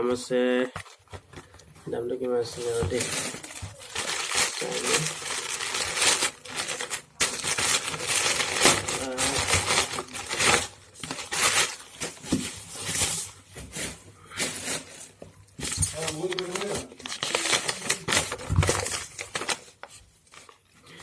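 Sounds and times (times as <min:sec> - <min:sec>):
packaging rustling and crinkling: 0:00.8 - 0:21.0.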